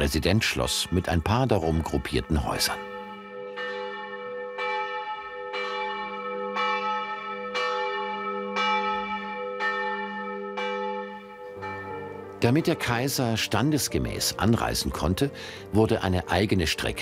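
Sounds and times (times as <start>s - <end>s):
church bell tolling: 0.0s - 17.0s.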